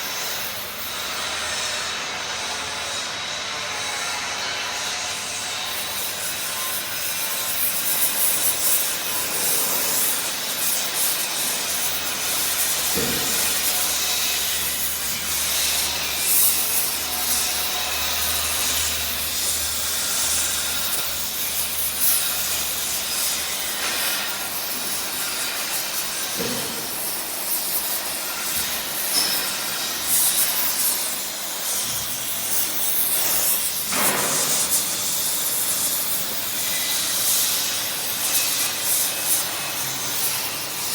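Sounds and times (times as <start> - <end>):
welding arc crackling and hissing: 0.0 - 40.9.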